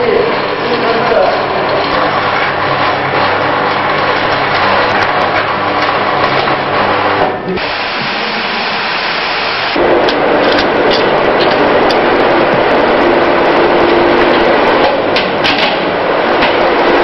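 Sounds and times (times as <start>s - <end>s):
loud machinery noise: 0.0s - 17.0s.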